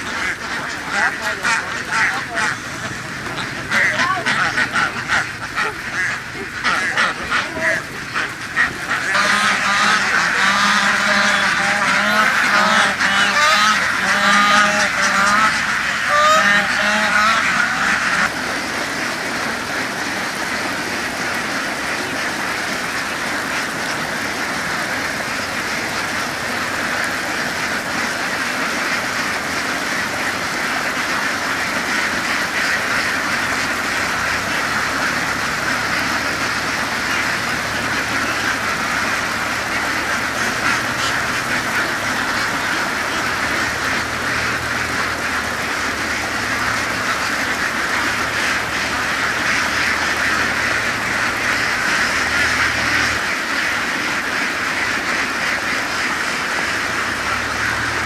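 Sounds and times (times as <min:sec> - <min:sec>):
ducks quacking: 0:00.0 - 0:58.0.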